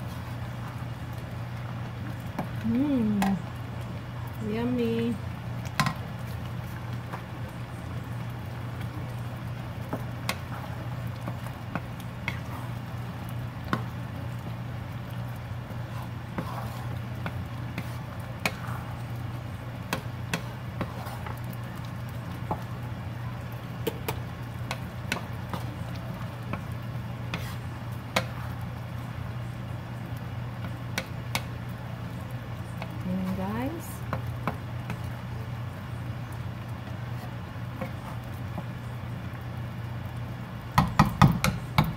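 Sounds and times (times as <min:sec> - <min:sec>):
wooden spatula stirring: 0:00.0 - 0:39.5
stew bubbling in a pan: 0:00.0 - 0:41.9.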